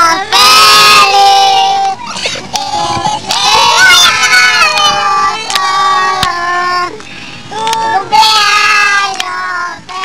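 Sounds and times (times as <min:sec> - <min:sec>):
high child-like singing voice: 0:00.0 - 0:10.0.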